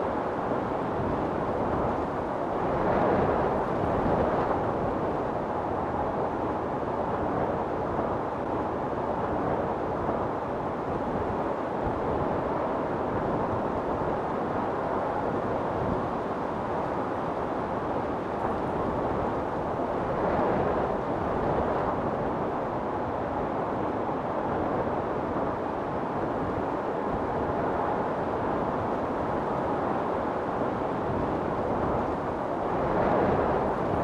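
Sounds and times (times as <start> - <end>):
storm wind blowing hard: 0.0 - 34.0.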